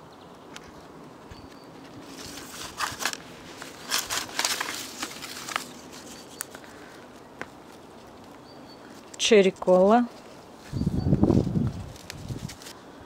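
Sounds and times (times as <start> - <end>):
plastic pots and leaves rustling: 0.5 - 12.8.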